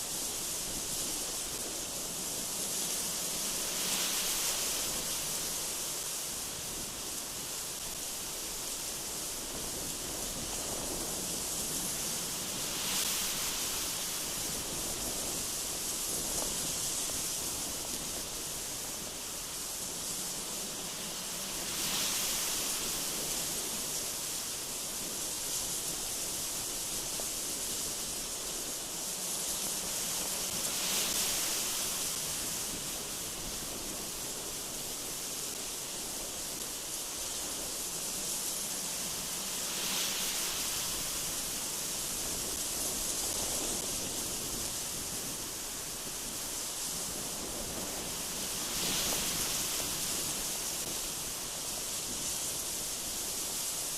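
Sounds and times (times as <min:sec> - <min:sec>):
strong gusty wind through trees: 0:00.0 - 0:53.9.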